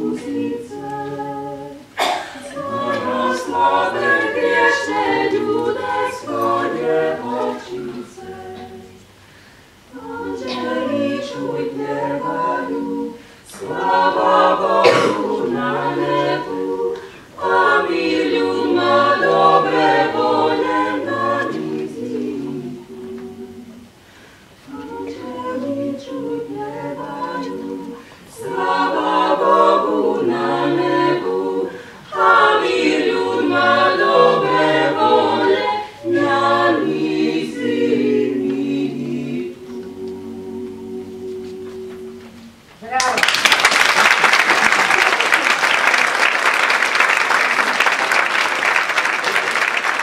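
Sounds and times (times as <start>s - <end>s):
a cappella group singing in harmony: 0.0s - 42.7s.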